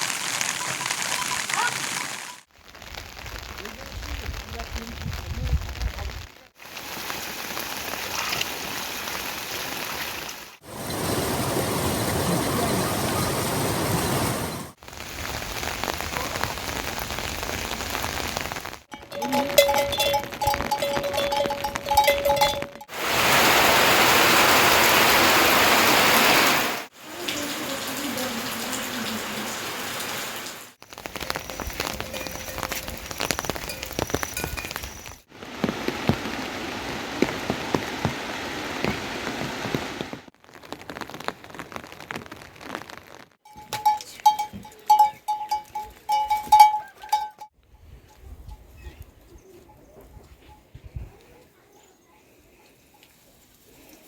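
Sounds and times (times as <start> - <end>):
rain pattering on surfaces: 0.0 - 47.5.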